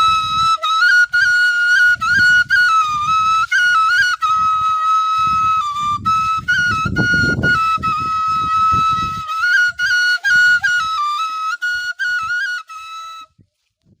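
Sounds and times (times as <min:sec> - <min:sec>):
bamboo flute melody: 0:00.0 - 0:13.7.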